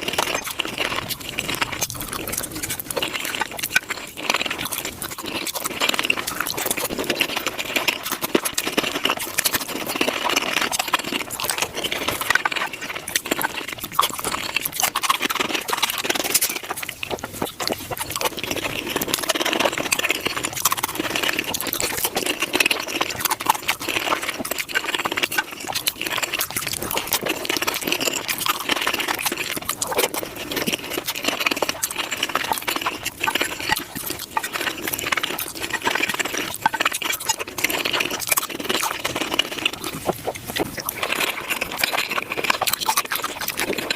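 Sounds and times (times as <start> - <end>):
chewing and crunching food: 0.0 - 43.9.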